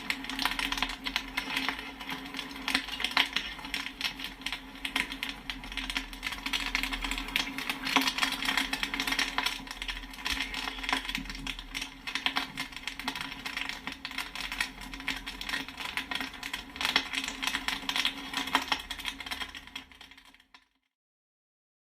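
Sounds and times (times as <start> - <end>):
popcorn popping: 0.0 - 20.8.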